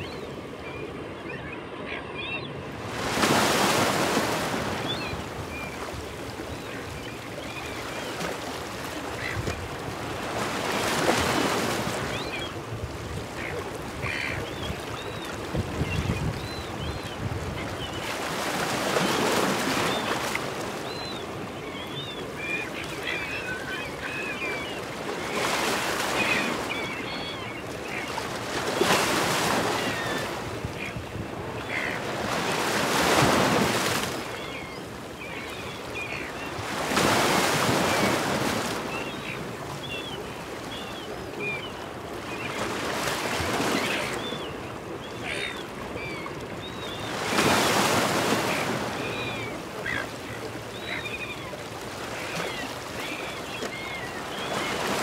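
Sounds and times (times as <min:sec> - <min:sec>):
gulls squawking: 0:00.0 - 0:55.0.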